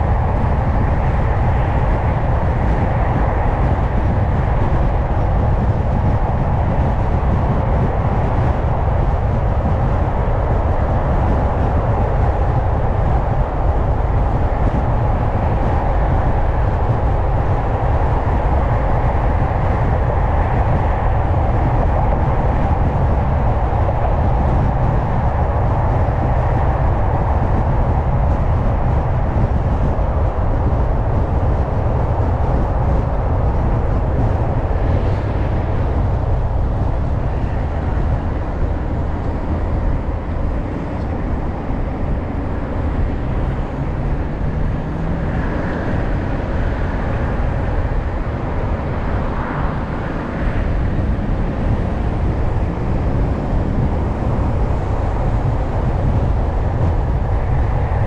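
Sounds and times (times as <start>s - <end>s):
low engine hum: 0.0s - 58.0s
tyre and road noise: 0.0s - 58.0s.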